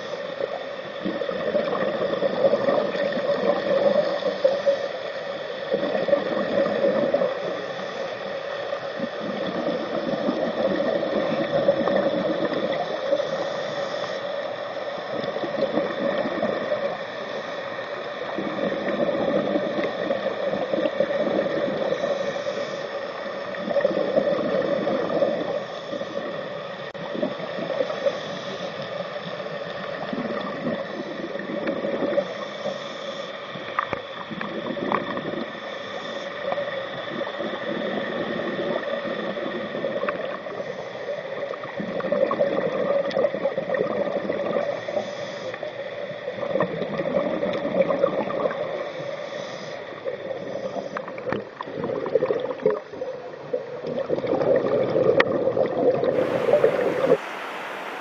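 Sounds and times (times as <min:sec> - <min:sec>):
underwater gurgling water rush: 0:00.0 - 0:58.0.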